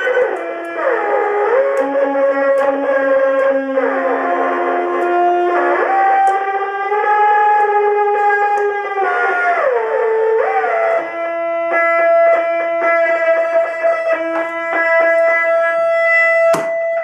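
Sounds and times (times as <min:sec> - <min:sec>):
buzzy sliding synthesizer notes: 0:00.0 - 0:17.0.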